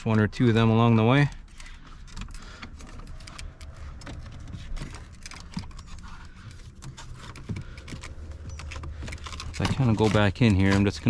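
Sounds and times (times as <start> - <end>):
plastic trim clicking and rattling: 1.3 - 11.0.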